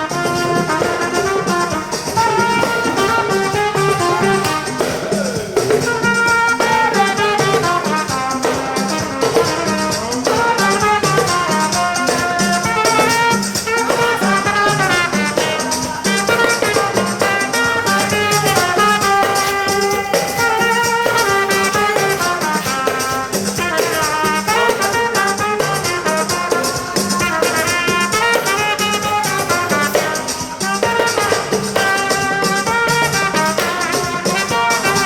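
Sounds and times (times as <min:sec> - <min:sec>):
instrumental music with percussion: 0:00.0 - 0:35.0.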